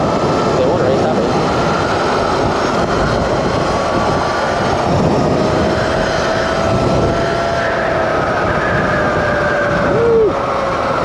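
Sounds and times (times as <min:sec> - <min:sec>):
electric motor whining: 0:00.0 - 0:11.0
wind rush on microphone: 0:00.0 - 0:11.0.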